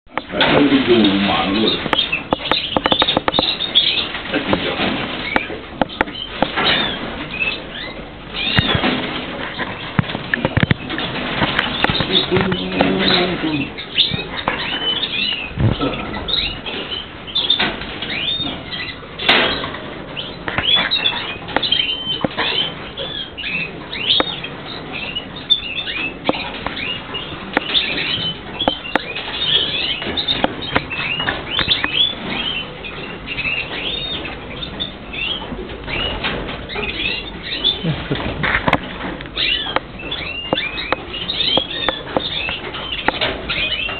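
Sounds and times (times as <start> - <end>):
small birds chirping: 0.1 - 43.9.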